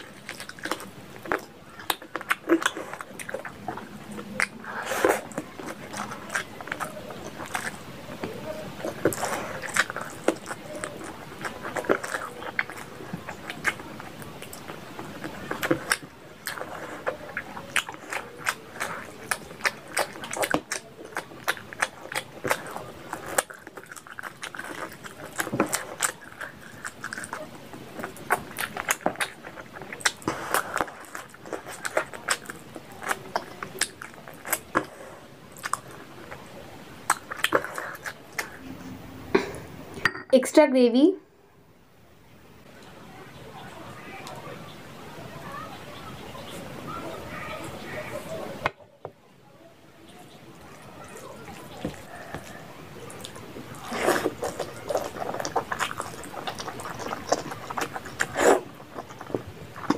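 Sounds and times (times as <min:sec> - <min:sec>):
wet chewing and lip-smacking: 0:00.0 - 0:38.6, 0:50.1 - 0:59.9.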